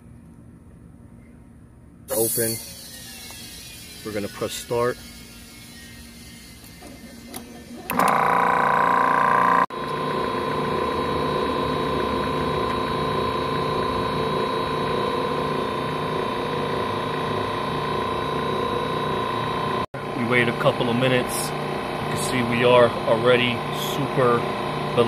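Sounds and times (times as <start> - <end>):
compressor pulsing hum: 0.0 - 25.0.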